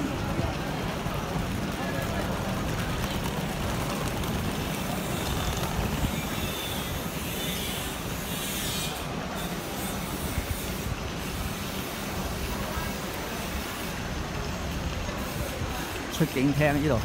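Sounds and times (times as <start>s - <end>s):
busy crowd of travellers: 0.0s - 17.0s
road traffic: 0.0s - 17.0s.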